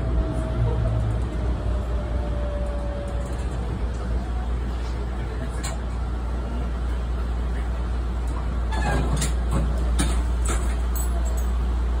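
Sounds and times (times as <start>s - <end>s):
train cab hum and rumble: 0.0s - 12.0s.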